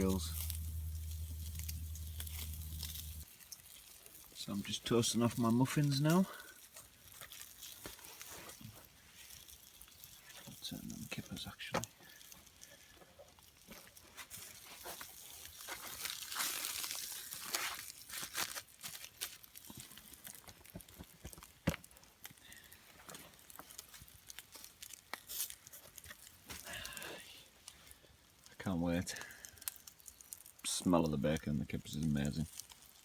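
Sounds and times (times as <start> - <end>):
tin foil crinkling: 0.0 - 33.0.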